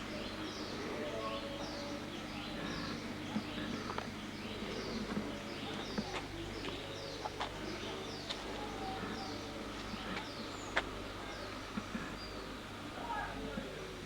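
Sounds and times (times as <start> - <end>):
birds chirping: 0.0 - 12.6.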